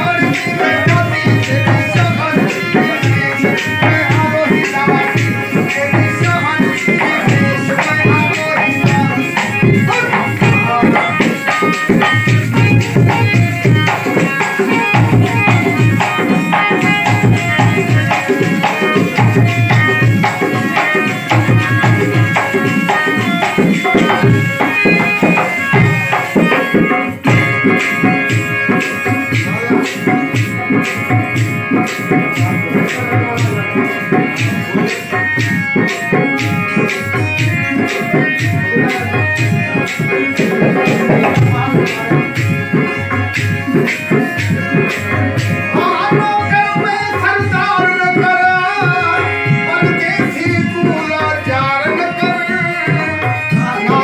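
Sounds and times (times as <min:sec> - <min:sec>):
hand drum beating: 0:00.0 - 0:54.0
harmonium playing held notes: 0:00.0 - 0:54.0.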